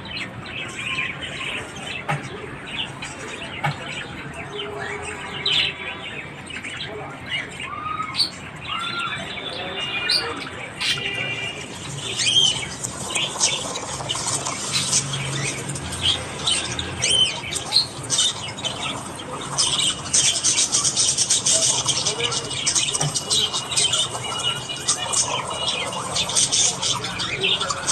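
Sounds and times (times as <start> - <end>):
budgerigars chattering: 0.0 - 27.9.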